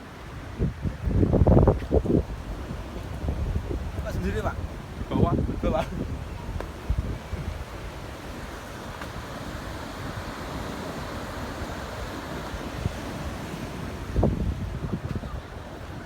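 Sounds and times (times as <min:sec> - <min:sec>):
ocean surf washing: 0:00.0 - 0:16.0
wind noise on microphone: 0:00.0 - 0:16.0.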